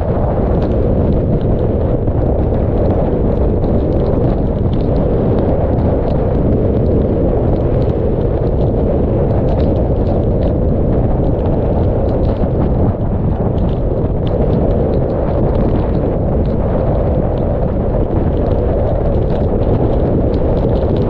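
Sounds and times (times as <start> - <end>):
loud wind on microphone: 0.0 - 21.0
rain ticking on camera: 0.0 - 21.0.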